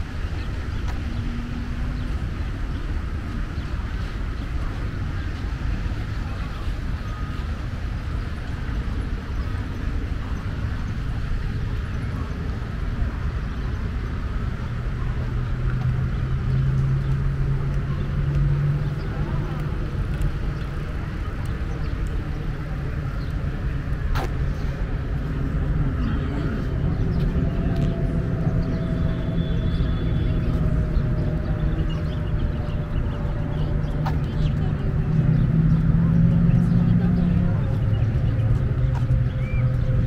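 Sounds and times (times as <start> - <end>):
road traffic rumble: 0.0 - 40.0
vehicle engine drone: 0.0 - 40.0.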